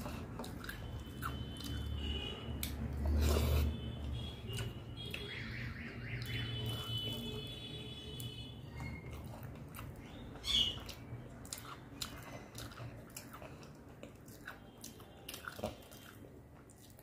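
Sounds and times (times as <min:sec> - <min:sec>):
chewing mouth sounds: 0:00.0 - 0:05.3, 0:08.1 - 0:17.0.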